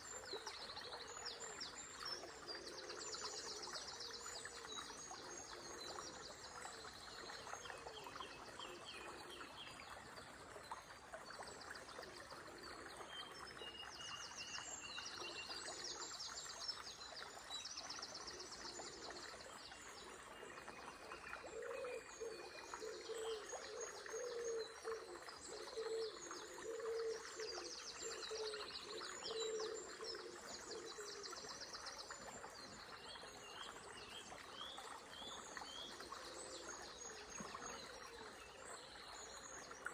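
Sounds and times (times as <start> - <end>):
flowing river water: 0.0 - 39.9
songbirds trilling and chirping: 0.0 - 39.9.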